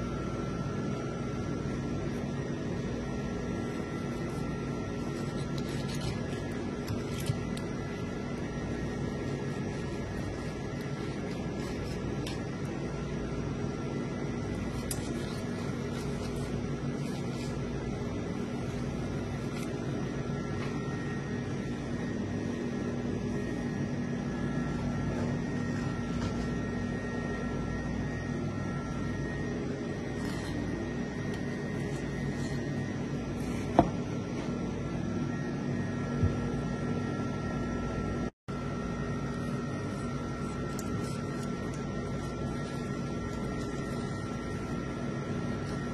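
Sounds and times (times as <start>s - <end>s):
steady mechanical hum: 0.0s - 45.9s.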